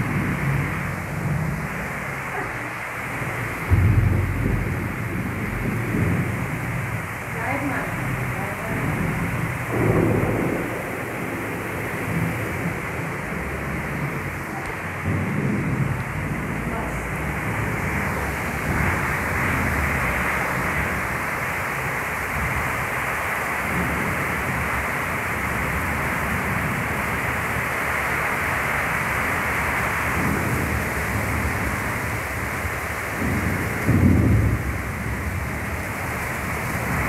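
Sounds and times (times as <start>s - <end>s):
heavy rain pouring: 0.0s - 37.0s
thunder rumbling: 0.0s - 37.0s.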